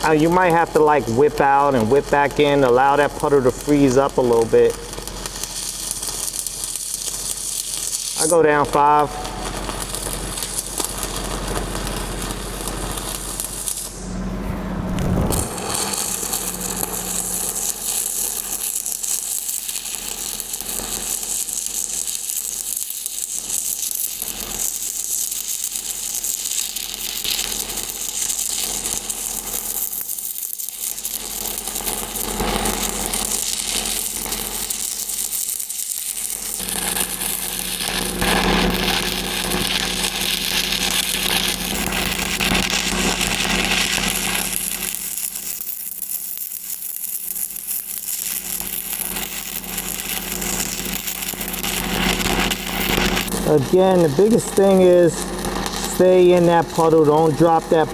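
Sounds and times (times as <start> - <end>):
welding arc crackling: 0.0 - 57.9.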